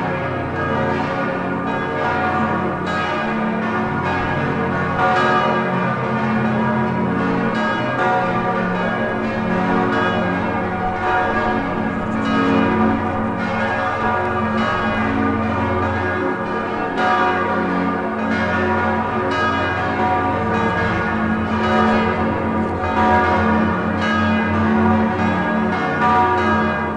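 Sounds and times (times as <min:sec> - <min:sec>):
church bells ringing: 0:00.0 - 0:26.9.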